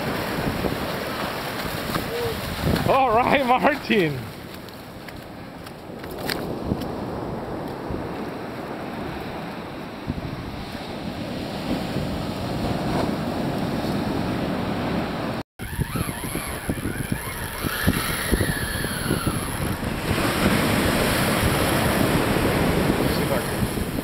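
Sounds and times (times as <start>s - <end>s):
breaking surf: 0.0s - 4.8s, 6.0s - 24.0s
wind buffeting microphone: 1.6s - 4.4s, 5.8s - 24.0s.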